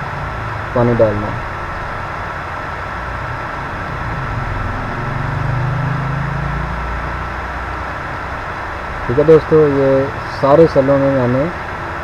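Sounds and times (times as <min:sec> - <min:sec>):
low engine-like drone: 0:00.0 - 0:12.0.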